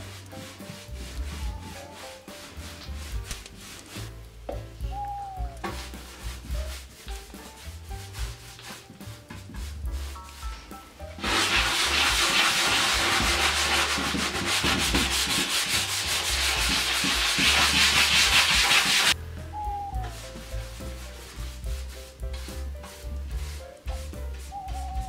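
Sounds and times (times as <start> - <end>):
sanding sponge rubbing wood: 0.0 - 4.2, 5.4 - 10.6, 11.2 - 19.2, 20.0 - 25.0
background music: 0.0 - 25.0.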